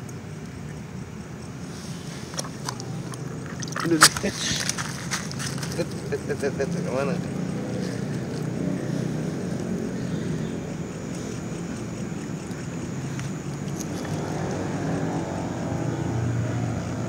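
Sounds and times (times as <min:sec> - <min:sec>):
small engine droning: 0:01.4 - 0:17.0.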